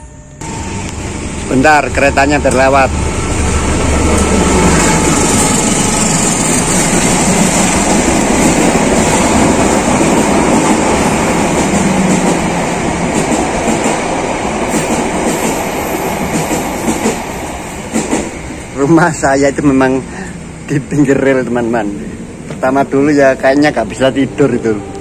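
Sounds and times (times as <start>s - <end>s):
passenger train rolling past: 0.0s - 25.0s.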